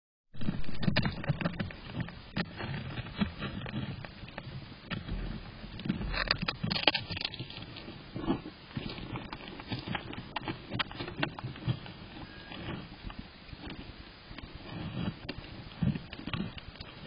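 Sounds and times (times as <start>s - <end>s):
hedgehog crunching a snail: 0.4s - 17.0s.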